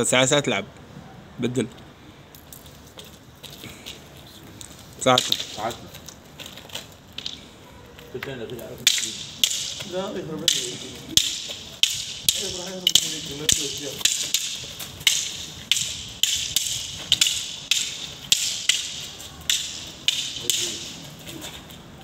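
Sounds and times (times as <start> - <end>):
wooden sticks clacking: 2.4 - 22.0.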